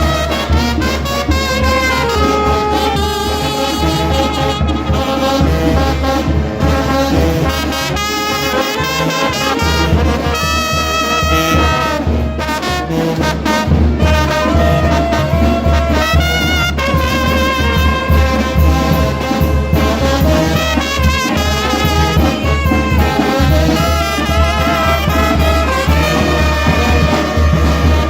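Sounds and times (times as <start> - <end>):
trumpets and trombones: 0.0 - 28.0.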